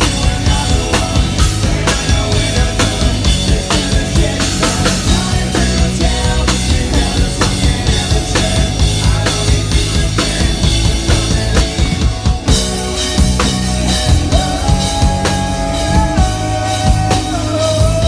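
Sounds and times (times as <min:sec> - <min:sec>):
drum kit beat: 0:00.0 - 0:18.0
live rock band playing: 0:00.0 - 0:18.0.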